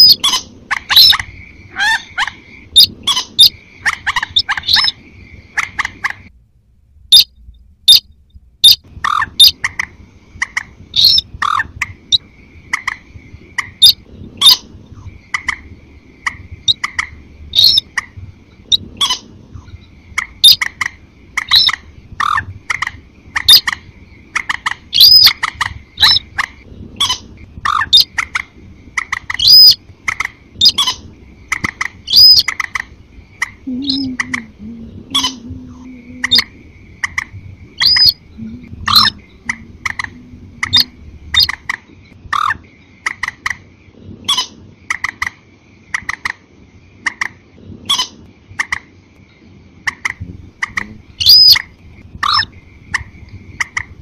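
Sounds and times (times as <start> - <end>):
crake calls: 0.0 - 6.3, 7.1 - 43.7, 49.8 - 54.0
moorhen calls: 0.0 - 6.3, 8.6 - 43.4, 49.9 - 54.0.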